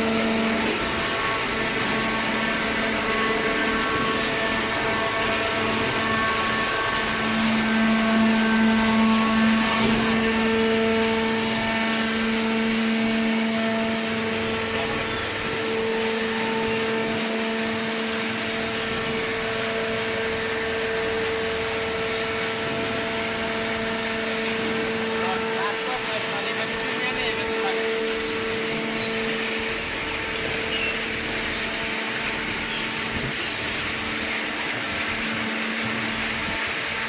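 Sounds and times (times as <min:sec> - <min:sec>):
electric motor and pump humming: 0:00.0 - 0:37.0.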